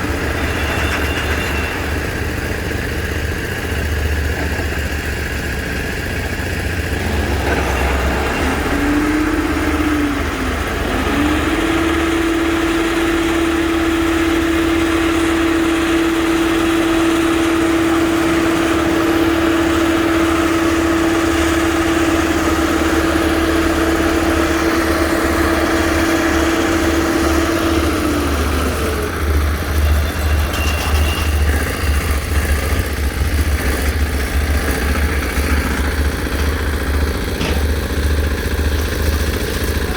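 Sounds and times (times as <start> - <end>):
heavy machine engine rumbling: 0.0 - 39.9.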